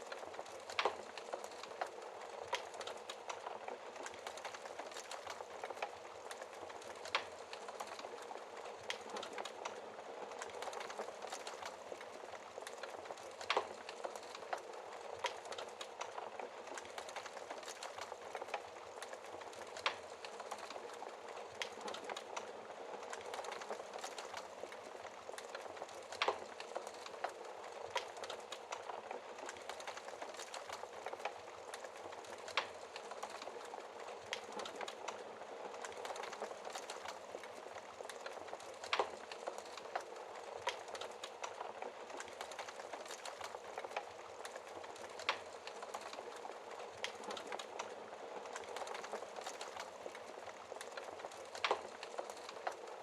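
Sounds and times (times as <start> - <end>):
fire popping: 0.0 - 53.0
wood fire crackling: 0.0 - 53.0.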